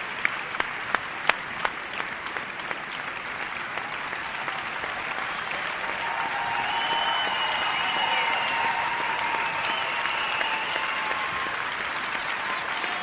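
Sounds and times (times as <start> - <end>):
audience applauding: 0.0 - 13.0
close hands clapping steadily: 0.0 - 13.0.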